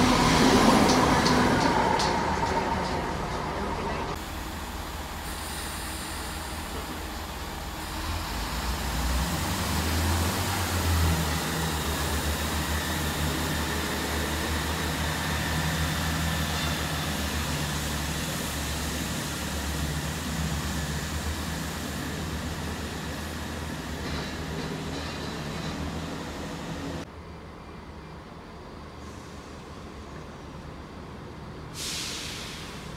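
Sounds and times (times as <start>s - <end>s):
train wheels hissing on rails: 0.0s - 27.1s, 28.8s - 30.6s, 31.6s - 32.9s
diesel train engine drone: 0.0s - 32.9s.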